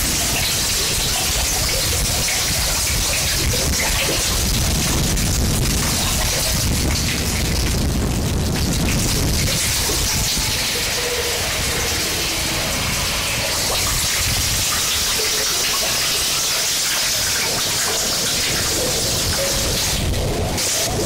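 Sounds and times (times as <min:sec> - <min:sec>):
harsh noise static hiss: 0:00.0 - 0:21.0
heavy low rumble: 0:00.0 - 0:21.0.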